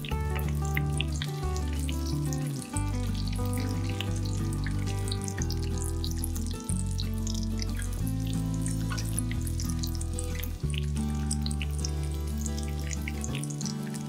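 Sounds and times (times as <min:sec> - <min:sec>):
background music: 0:00.0 - 0:14.0
fritters sizzling in oil: 0:00.0 - 0:14.0.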